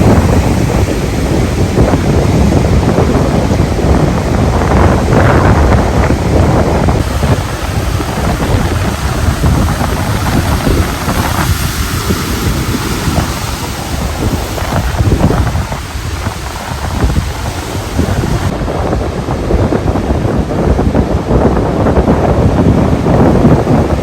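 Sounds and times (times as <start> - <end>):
ocean surf breaking: 0.0 - 24.0
wind buffeting microphone: 0.0 - 24.0.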